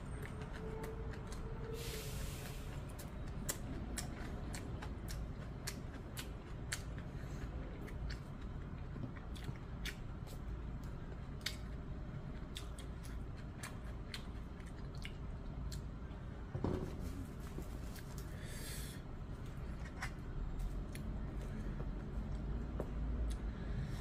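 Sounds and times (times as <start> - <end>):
person chewing food: 0.0 - 1.8, 2.4 - 16.1, 17.4 - 23.5.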